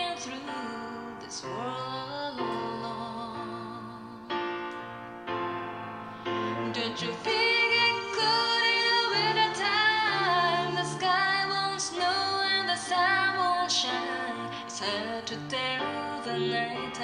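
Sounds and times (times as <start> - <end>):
woman singing over bass line: 0.0 - 4.3, 6.5 - 17.0.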